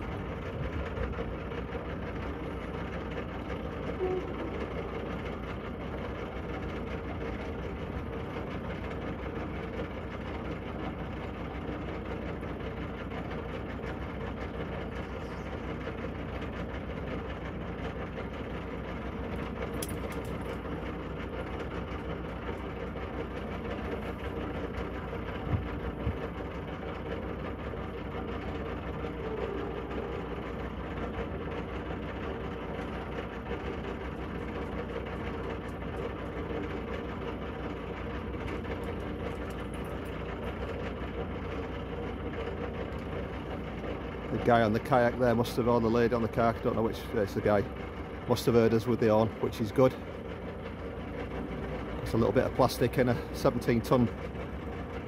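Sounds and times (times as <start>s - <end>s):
boat diesel engine droning: 0.0s - 55.0s.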